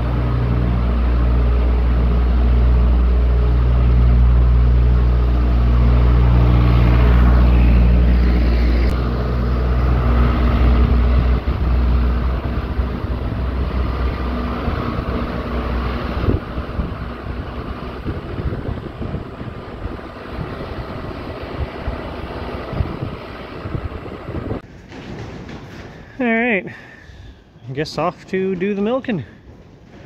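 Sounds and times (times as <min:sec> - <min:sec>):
farm machine engine running: 0:00.0 - 0:25.0.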